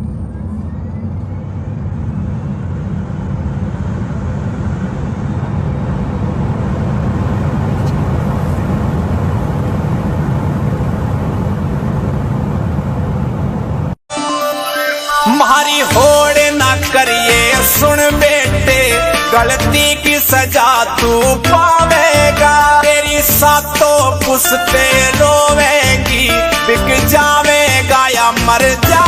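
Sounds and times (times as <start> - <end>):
car engine and road noise: 0.0 - 14.0, 15.9 - 29.0.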